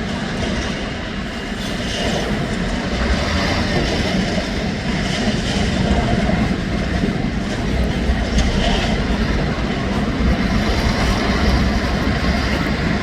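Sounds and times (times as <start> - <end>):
rubble crusher rumbling: 1.4 - 13.0.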